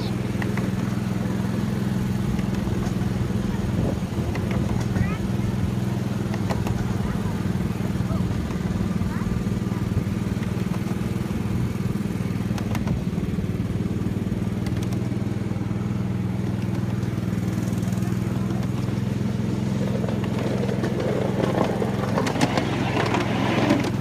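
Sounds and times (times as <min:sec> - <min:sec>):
small locomotive engine running: 0:00.0 - 0:24.0
wheels clicking on track: 0:00.0 - 0:24.0.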